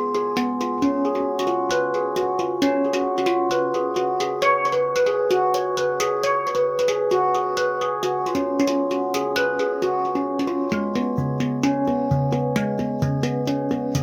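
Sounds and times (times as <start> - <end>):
handpan notes ringing: 0.0 - 14.0.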